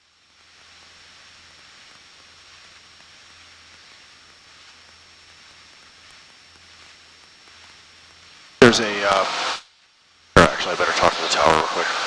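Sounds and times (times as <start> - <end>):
cabin hiss: 0.0 - 9.7, 10.3 - 12.0.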